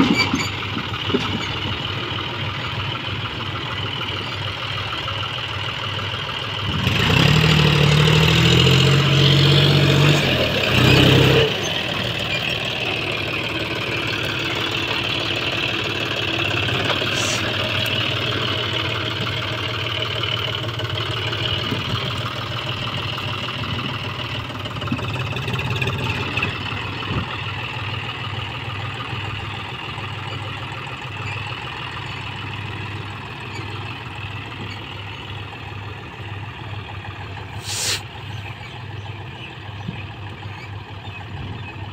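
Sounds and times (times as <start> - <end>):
tractor diesel engine: 0.0 - 41.9.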